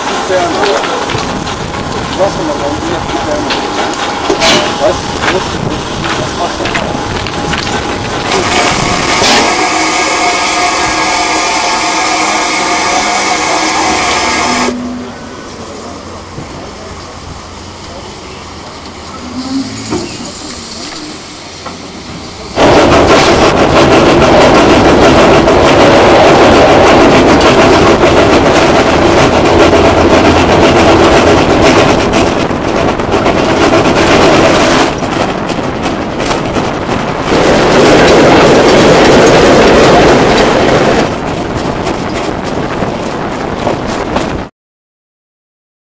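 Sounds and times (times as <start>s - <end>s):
steam tram engine running: 0.0s - 44.5s
wheels clicking on rails: 0.0s - 44.5s.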